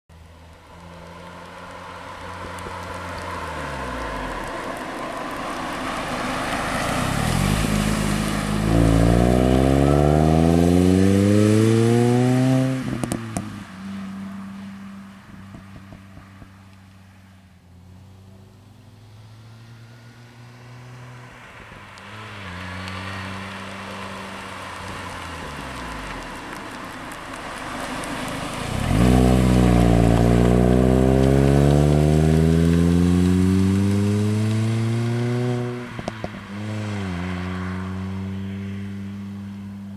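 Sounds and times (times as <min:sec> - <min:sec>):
exhaust crackles: 0:00.1 - 0:17.0, 0:20.3 - 0:39.3
car accelerating past: 0:00.6 - 0:17.0, 0:17.7 - 0:39.9.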